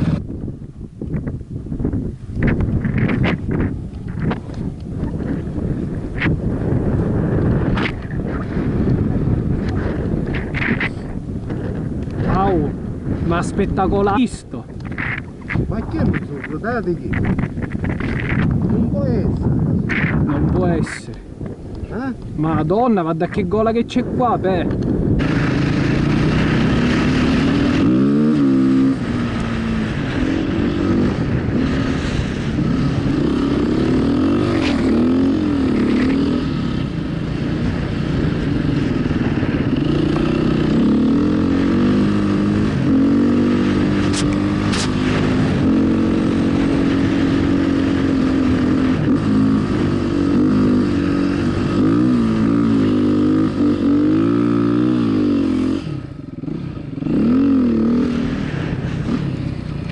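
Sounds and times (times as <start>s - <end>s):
motorcycle engine revving: 0.0s - 20.8s, 23.4s - 59.9s.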